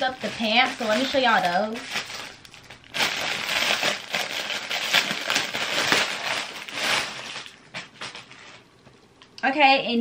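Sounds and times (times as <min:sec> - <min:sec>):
plastic mailer bag crinkling: 0:00.0 - 0:08.8.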